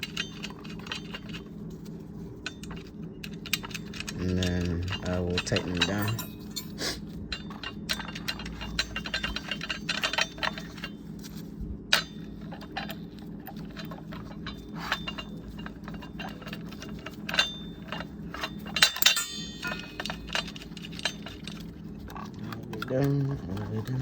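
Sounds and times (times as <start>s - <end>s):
metal clinks: 2.4s - 11.3s, 11.9s - 24.0s.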